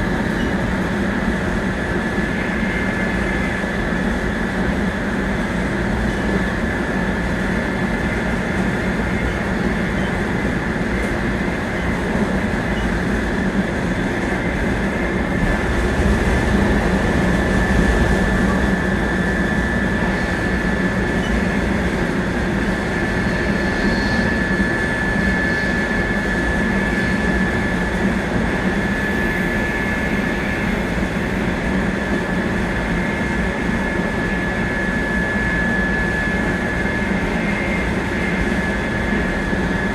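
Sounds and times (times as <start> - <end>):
train wheels rumbling on rail: 0.0 - 39.9
thin high whine: 7.8 - 39.9.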